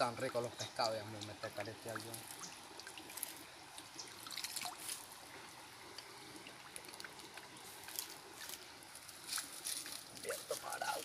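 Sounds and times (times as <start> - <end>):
light ticks and rustles: 0.0 - 5.2, 5.9 - 11.0
water trickling: 0.0 - 11.0.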